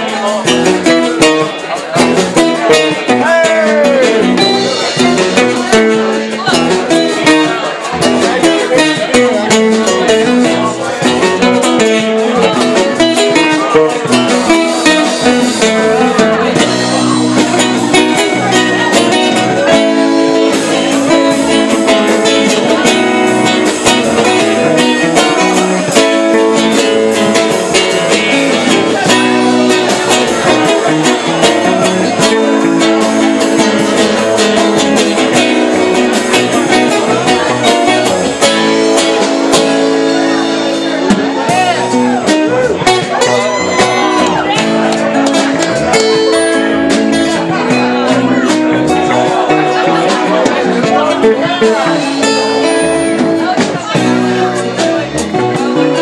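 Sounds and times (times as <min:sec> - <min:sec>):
drums striking steadily: 0:00.0 - 0:56.0
live band playing amplified music: 0:00.0 - 0:56.0.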